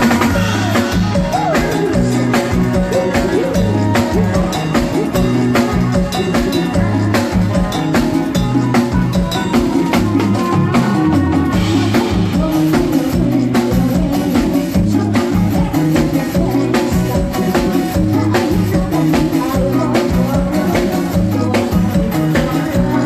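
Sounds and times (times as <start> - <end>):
bass: 0.0 - 23.0
drum kit beat: 0.0 - 23.0.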